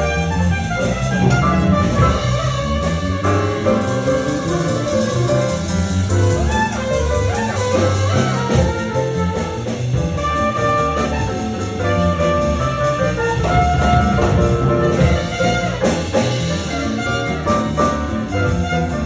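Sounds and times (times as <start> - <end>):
jazz band playing: 0.0 - 19.0
trumpet: 0.0 - 19.0.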